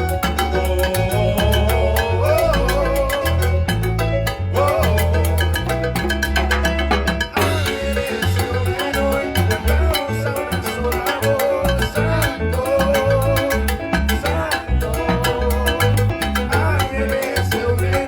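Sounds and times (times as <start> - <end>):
hand percussion: 0.0 - 18.0
salsa dance music: 0.0 - 18.0
syncopated bass line: 0.0 - 18.0
wavering melody line: 0.0 - 18.0.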